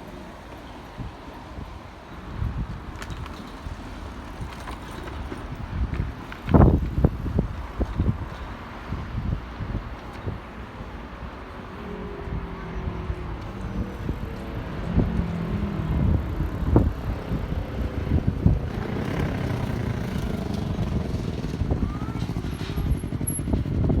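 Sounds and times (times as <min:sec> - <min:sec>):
vehicle engine hum and rumble: 0:02.3 - 0:24.0.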